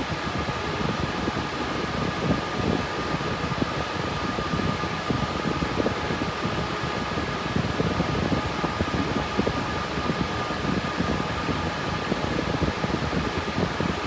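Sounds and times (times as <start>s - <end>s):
cooling fans rushing air: 0.0s - 14.0s.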